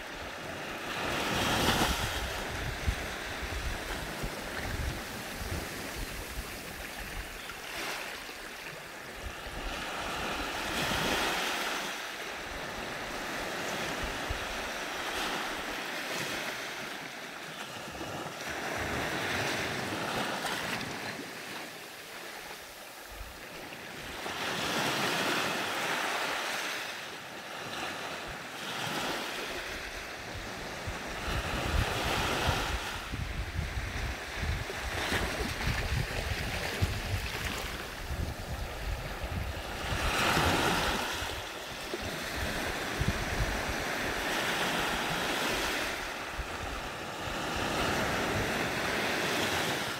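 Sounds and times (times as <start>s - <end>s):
gentle surf on sandy beach: 0.0s - 49.9s.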